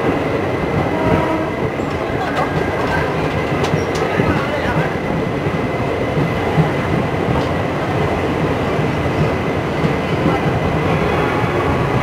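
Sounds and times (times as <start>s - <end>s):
train wheels clattering on rails: 0.0s - 12.0s.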